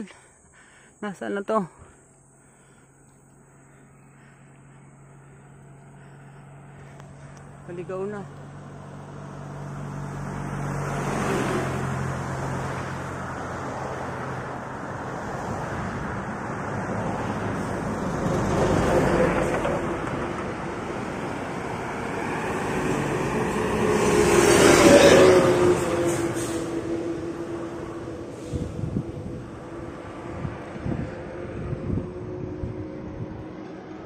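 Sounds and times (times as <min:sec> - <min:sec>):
motor vehicles passing: 0:00.1 - 0:34.0.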